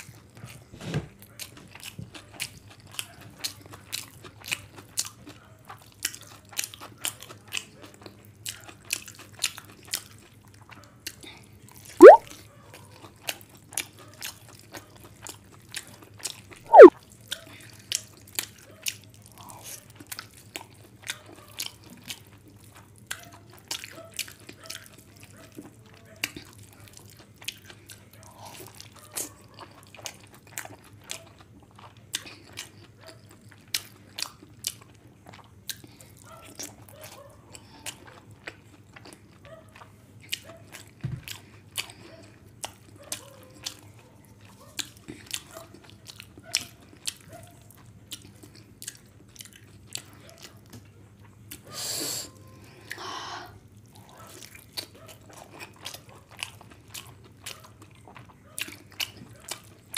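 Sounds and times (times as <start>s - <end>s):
wet chewing and mouth smacks: 1.2s - 53.0s, 53.7s - 59.9s.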